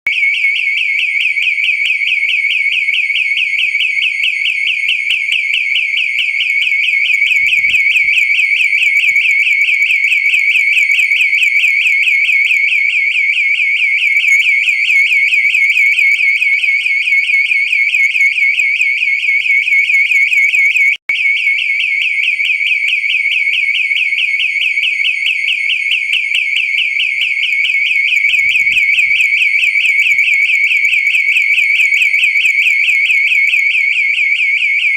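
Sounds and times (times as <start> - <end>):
burglar alarm siren warbling: 0.1 - 34.9.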